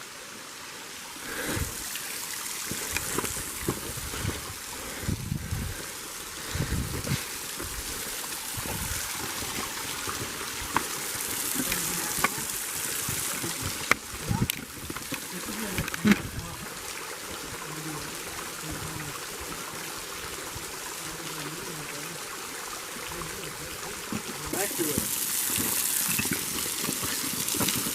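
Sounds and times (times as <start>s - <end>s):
stream trickling: 0.0s - 27.9s.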